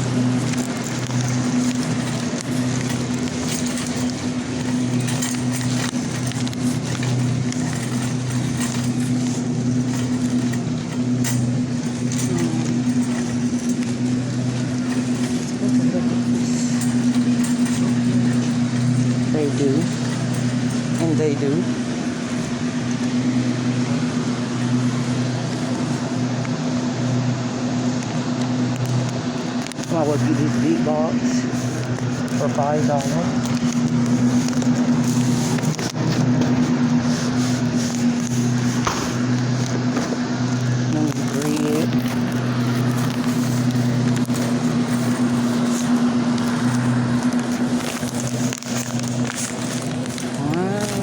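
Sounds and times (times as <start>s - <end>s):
low electrical hum: 0.0s - 51.0s
rolling rattling noise: 0.0s - 51.0s.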